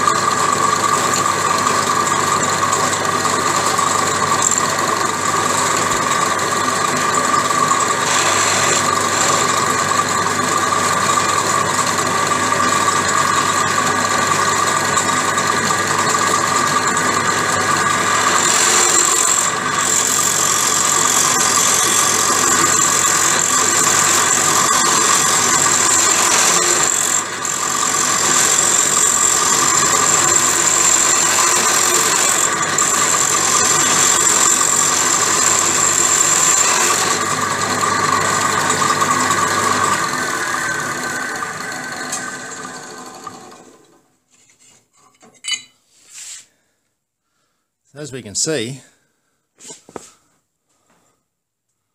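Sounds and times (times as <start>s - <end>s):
drill press humming: 0.0s - 44.1s
cutter grinding steel whine: 0.0s - 44.8s.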